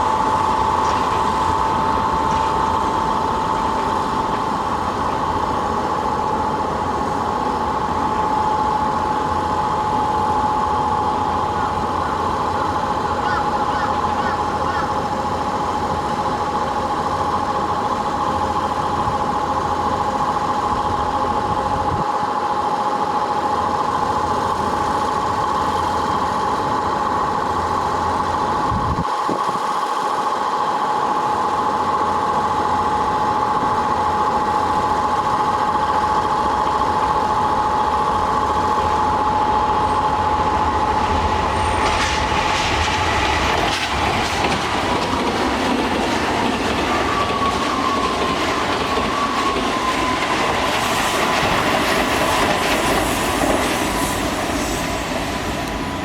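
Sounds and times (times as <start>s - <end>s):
train wheels clattering: 0.0s - 22.1s, 32.3s - 56.0s
electric train whine: 0.0s - 56.0s.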